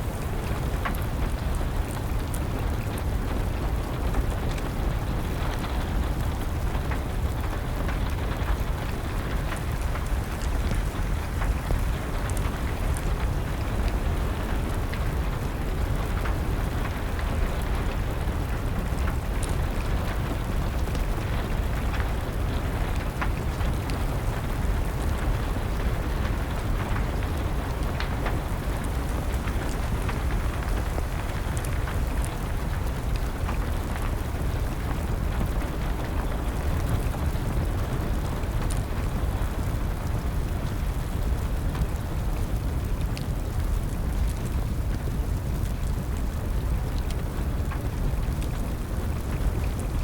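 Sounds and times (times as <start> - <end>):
steady rain: 0.0 - 50.0
wood fire crackling: 0.0 - 50.0.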